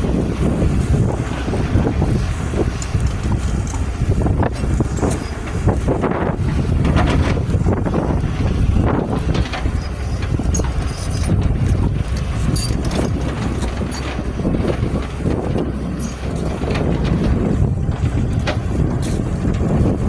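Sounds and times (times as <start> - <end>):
excavator engine running: 0.0 - 20.0
wind buffeting microphone: 0.0 - 20.0.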